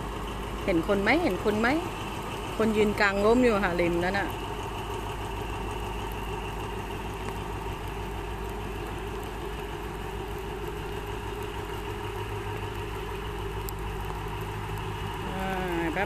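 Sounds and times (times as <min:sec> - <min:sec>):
diesel locomotive engine hum: 0:00.0 - 0:16.0.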